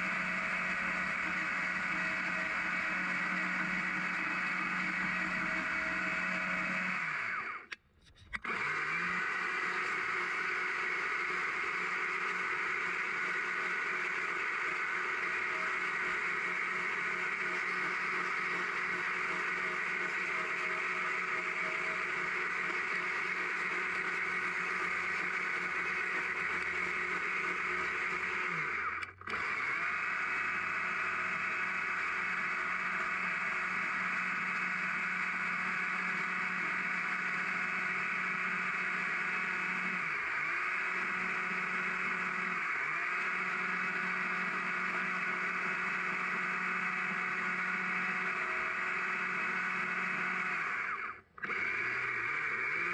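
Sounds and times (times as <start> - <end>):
chainsaw running at high revs: 0.0 - 7.7, 8.4 - 52.9.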